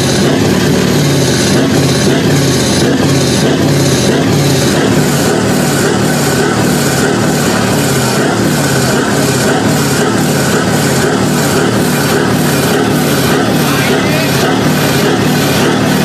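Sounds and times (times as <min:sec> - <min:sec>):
heavy vehicle engines running: 0:00.0 - 0:16.0.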